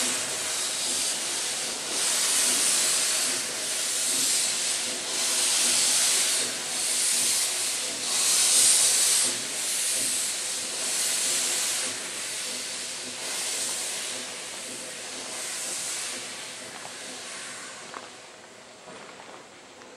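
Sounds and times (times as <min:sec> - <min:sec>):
steam locomotive hissing: 0:00.0 - 0:19.9.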